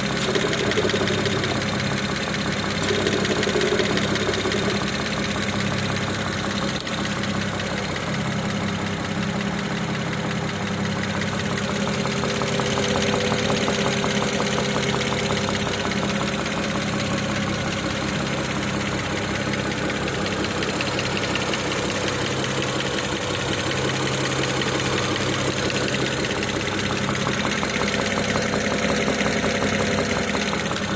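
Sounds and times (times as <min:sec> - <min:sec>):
car engine idling: 0:00.0 - 0:30.9
engine knocking: 0:00.0 - 0:30.9.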